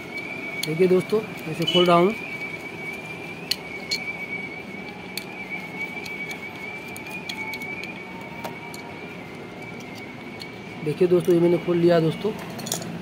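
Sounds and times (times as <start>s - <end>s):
steady high-pitched tone: 0.0s - 12.3s.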